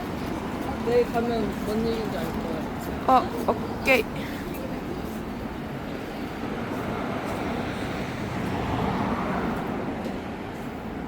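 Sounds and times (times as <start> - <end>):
steady vehicle noise: 0.0 - 11.0.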